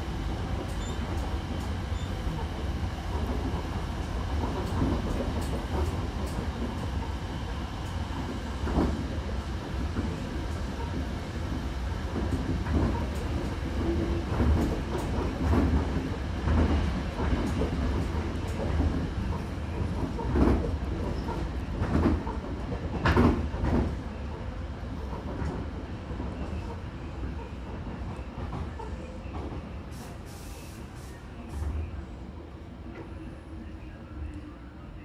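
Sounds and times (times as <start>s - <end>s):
train low rumble: 0.0s - 35.0s.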